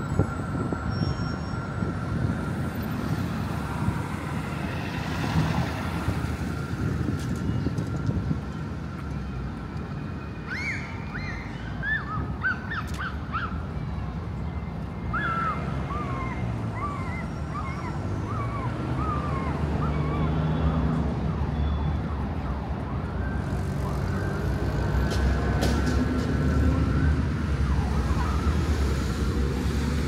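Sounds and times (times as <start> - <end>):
street traffic rumble: 0.0 - 30.0.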